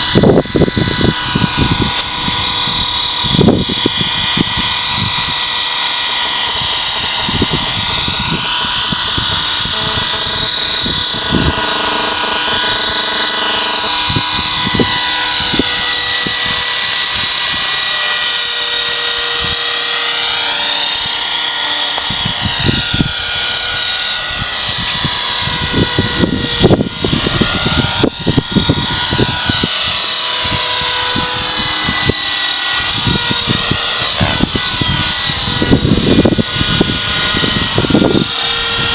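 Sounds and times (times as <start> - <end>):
gusty wind on microphone: 0.0 - 38.9
model helicopter whining: 0.0 - 38.9.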